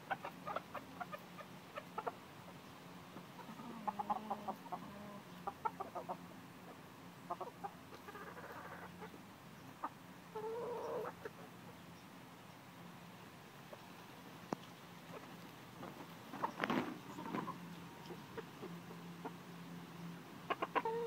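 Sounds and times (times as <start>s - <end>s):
chickens clucking: 0.0s - 12.5s, 13.6s - 21.0s.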